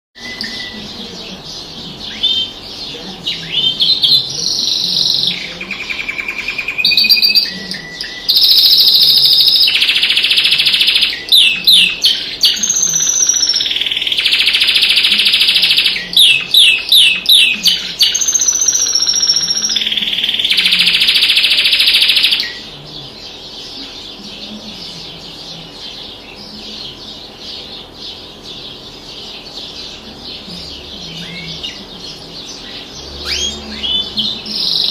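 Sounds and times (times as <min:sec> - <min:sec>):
songbird singing trills and whistles: 0:00.2 - 0:34.9.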